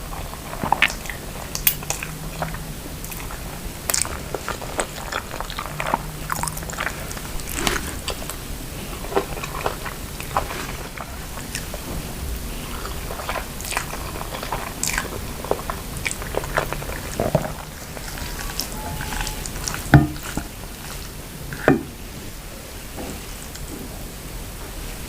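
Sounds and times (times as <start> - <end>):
mouth chewing noodles: 0.0 - 22.1.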